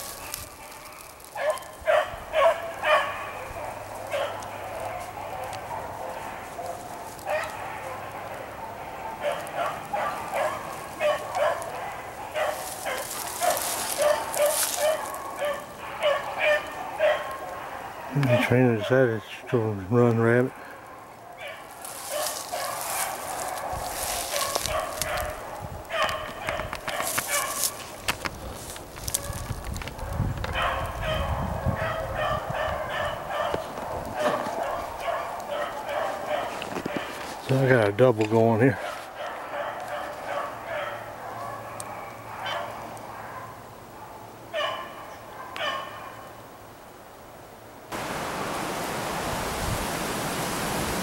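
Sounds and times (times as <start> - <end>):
hissing rustle: 0.0 - 19.5, 20.1 - 31.1, 33.2 - 44.0
beagles baying: 0.0 - 46.5.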